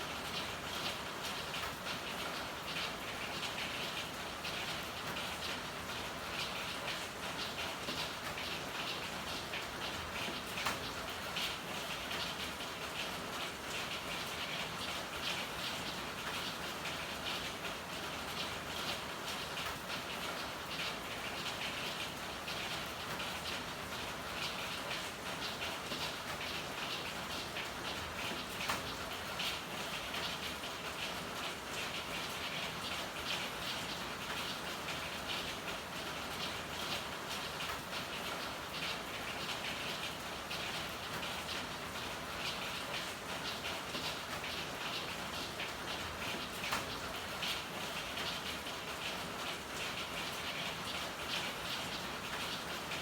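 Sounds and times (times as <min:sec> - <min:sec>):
rain patter: 0:00.0 - 0:53.0.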